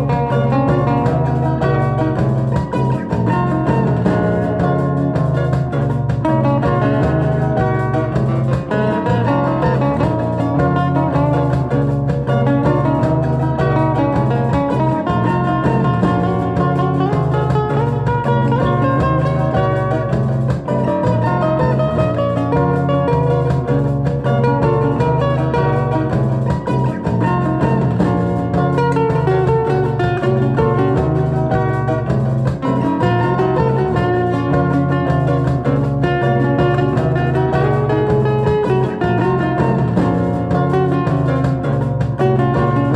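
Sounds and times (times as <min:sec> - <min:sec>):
bass line: 0:00.0 - 0:42.9
flamenco-style guitar: 0:00.0 - 0:42.9.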